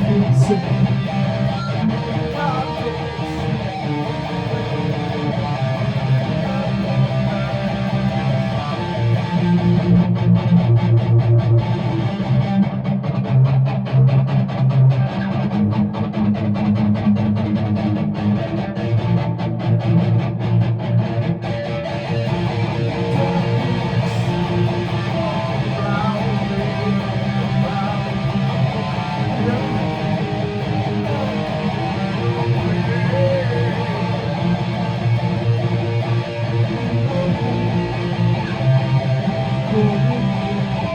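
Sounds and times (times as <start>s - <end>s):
guitar strumming chords: 0.0s - 40.9s.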